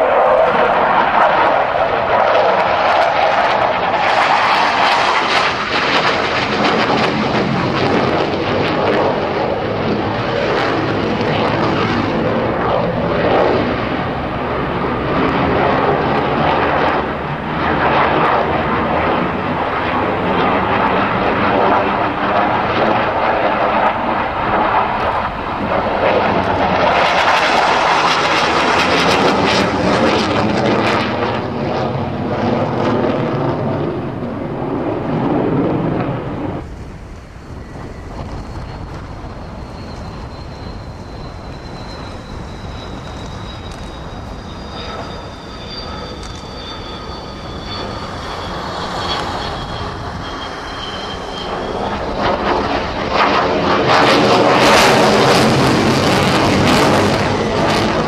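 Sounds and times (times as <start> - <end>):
jet engines roaring overhead: 0.0 - 58.0.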